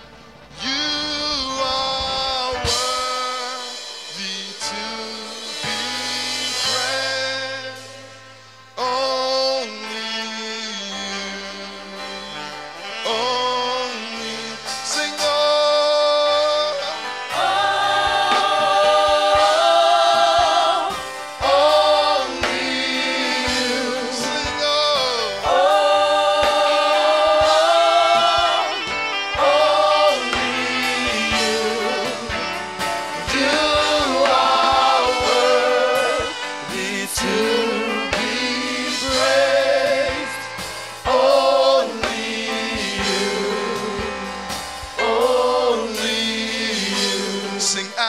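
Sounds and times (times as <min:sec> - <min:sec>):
group singing gospel song: 0:00.0 - 0:48.0
instrumental accompaniment: 0:00.0 - 0:48.0.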